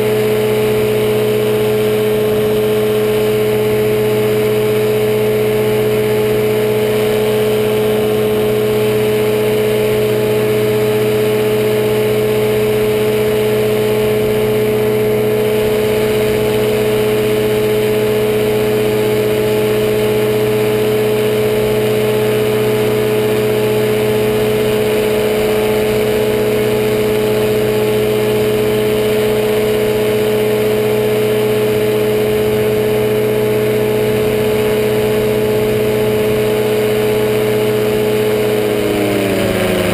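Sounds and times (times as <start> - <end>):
engine and propeller drone: 0.0 - 39.9.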